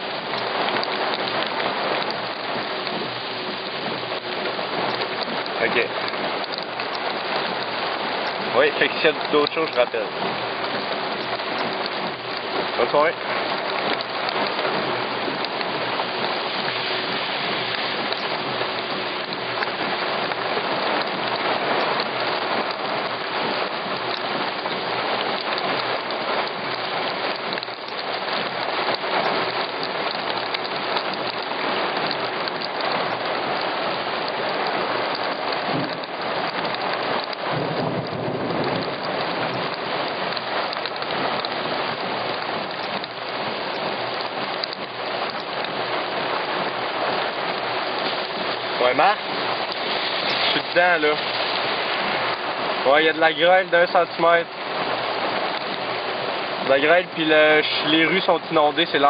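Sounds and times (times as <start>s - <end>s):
heavy rain and hail falling: 0.0s - 59.0s
thunder rumbling: 0.0s - 59.0s.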